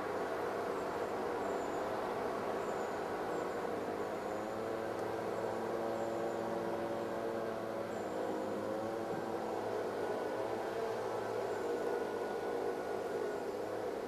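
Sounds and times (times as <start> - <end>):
electric locomotive hum: 0.0 - 14.0
whining traction tones: 0.0 - 14.0.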